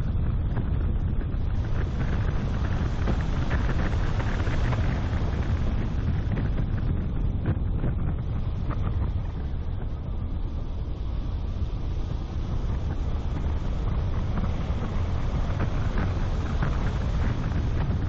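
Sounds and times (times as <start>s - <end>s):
car driving on asphalt: 0.0s - 18.0s
wind buffeting microphone: 0.0s - 18.0s.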